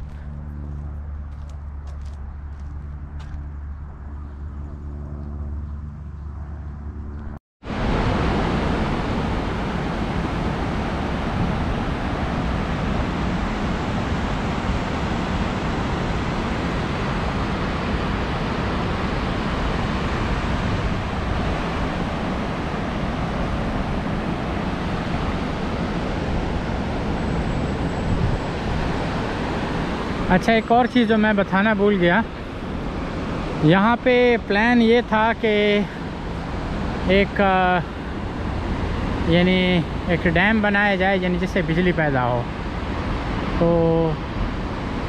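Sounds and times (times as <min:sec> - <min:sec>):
low hum: 0:00.0 - 0:41.2.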